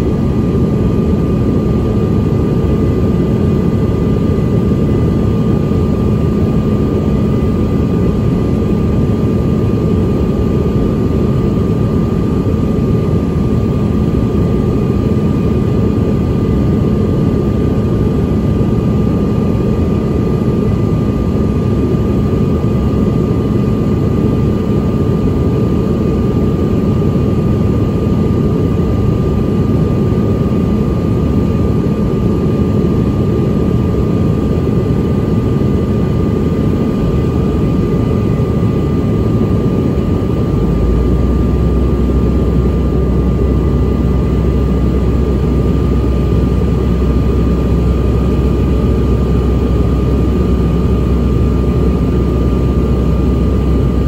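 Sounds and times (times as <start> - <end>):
jet cabin drone: 0.0 - 54.0.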